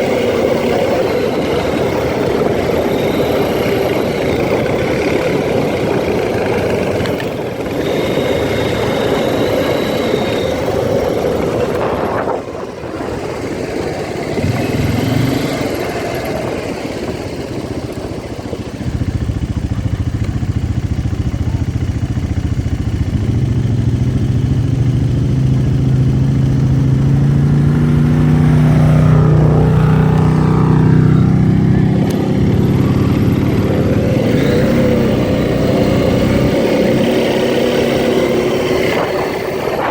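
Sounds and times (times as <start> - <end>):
atv engine accelerating: 0.0 - 39.9.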